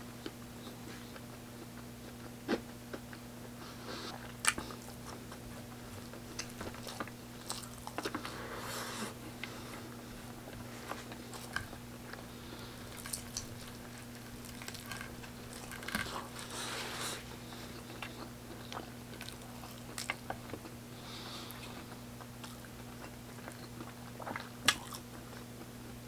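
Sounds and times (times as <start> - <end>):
chewing and crunching food: 0.2 - 26.0.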